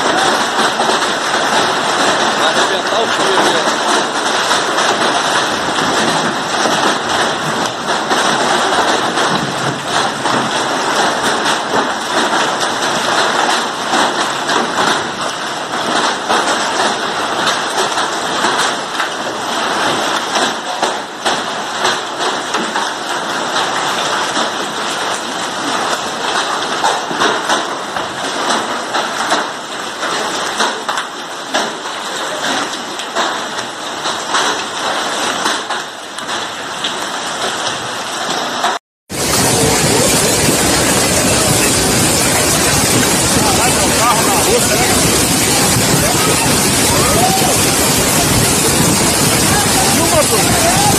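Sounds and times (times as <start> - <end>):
hail and rain pelting ground: 0.0 - 50.9.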